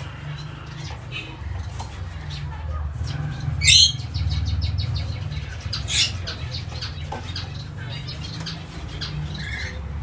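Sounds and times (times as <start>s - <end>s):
finch chirping: 0.0s - 10.0s.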